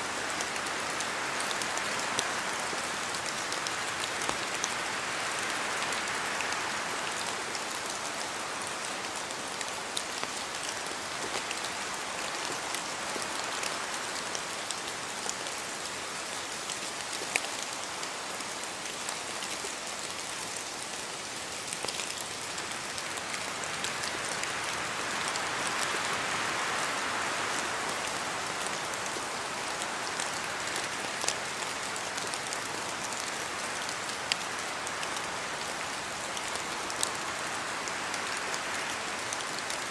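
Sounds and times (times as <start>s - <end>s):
rain falling on trees: 0.0s - 39.9s.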